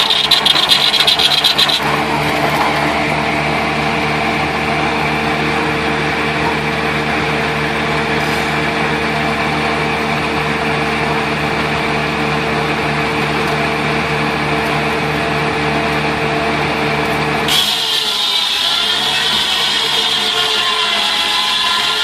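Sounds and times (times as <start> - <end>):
sawmill machine motor hum: 0.0 - 22.0.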